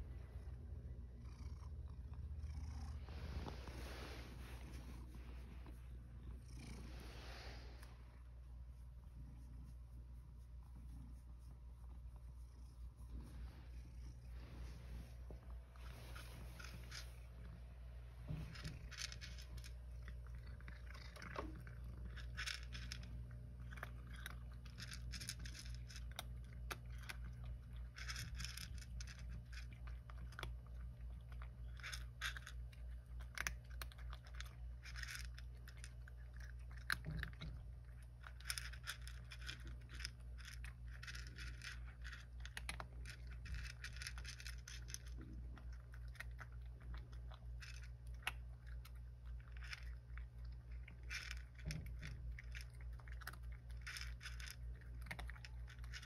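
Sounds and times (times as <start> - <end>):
steady low hum: 0.0 - 56.0
cat crunching dry kibble: 10.7 - 56.0.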